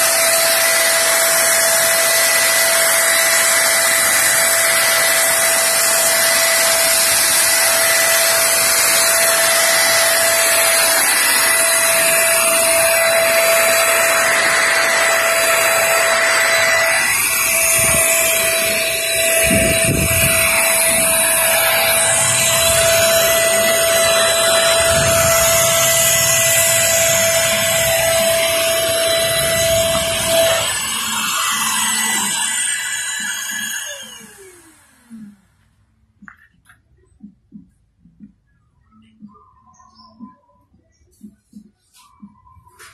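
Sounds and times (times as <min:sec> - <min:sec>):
paint spray gun whine and hiss: 0:00.0 - 0:35.6.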